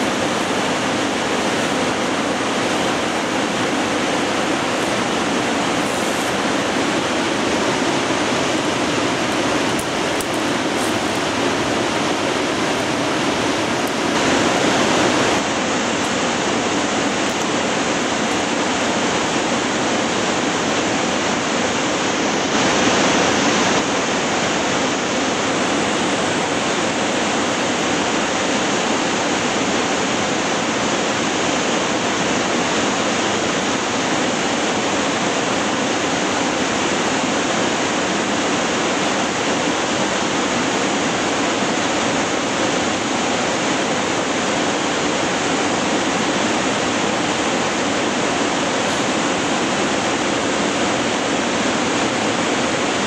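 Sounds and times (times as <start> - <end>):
fast river rushing: 0.0 - 53.0.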